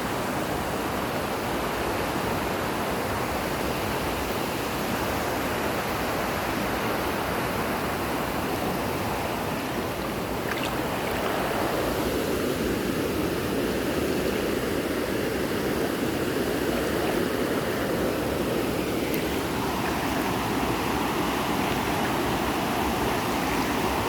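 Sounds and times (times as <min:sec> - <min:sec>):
running water: 0:04.6 - 0:24.0.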